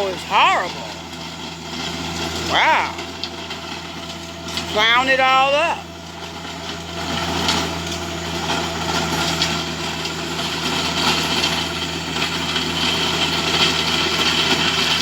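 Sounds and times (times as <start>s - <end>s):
tiller churning clay soil: 0.0s - 15.0s
tractor engine running: 0.0s - 15.0s.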